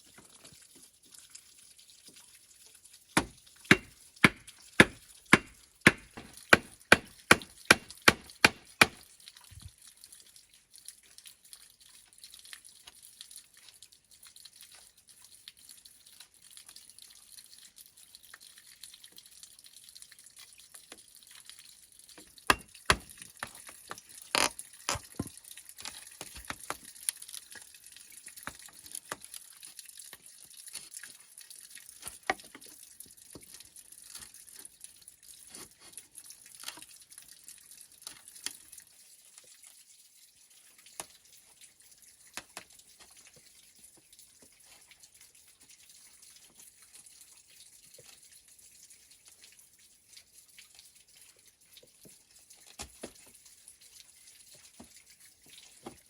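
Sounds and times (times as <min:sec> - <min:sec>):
light taps and drip-like clicks: 0:00.0 - 0:56.0.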